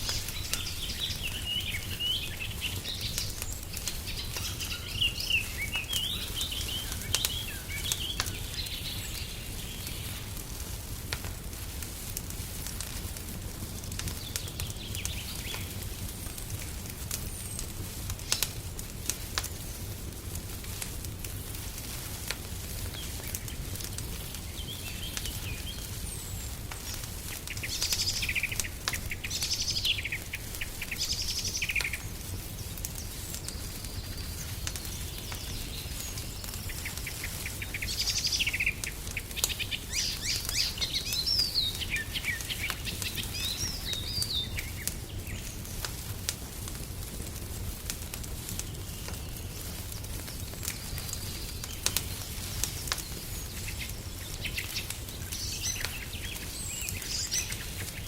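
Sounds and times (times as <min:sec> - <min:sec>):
songbirds chirping: 0:00.0 - 0:11.5, 0:13.2 - 0:20.3, 0:21.2 - 0:58.0
wood fire crackling: 0:00.0 - 0:58.0.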